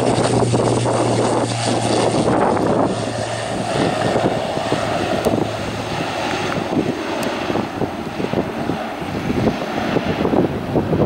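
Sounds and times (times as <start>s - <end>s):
turboprop engine and propeller noise: 0.0s - 11.0s
wind buffeting on microphone: 0.0s - 11.0s.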